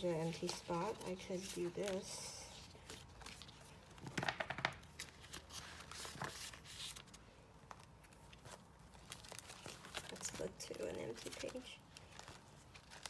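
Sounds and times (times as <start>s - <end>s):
paper and plastic sleeves rustling: 0.0s - 13.0s.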